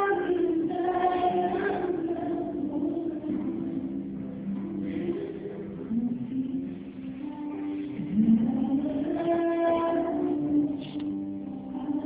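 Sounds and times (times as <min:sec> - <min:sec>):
slow music with held notes: 0:00.0 - 0:12.0.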